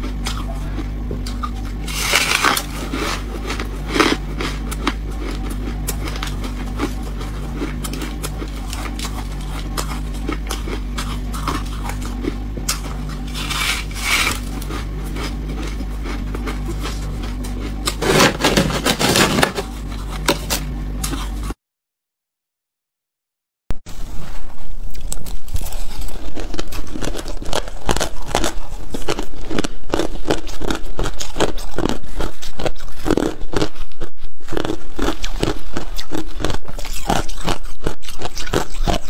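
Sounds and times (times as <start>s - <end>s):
frost crunching while chewed: 0.0s - 21.6s, 24.8s - 39.0s
steady low hum: 0.0s - 21.6s, 23.7s - 39.0s.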